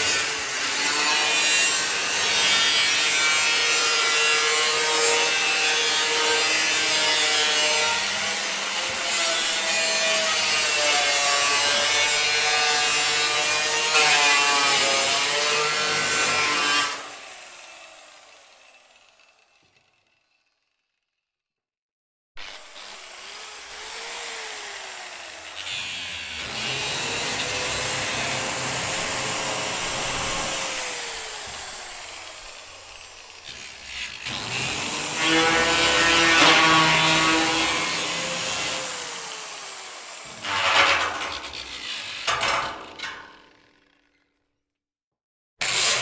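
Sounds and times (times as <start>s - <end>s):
angle grinder grinding metal: 0.0s - 20.1s, 22.4s - 43.7s.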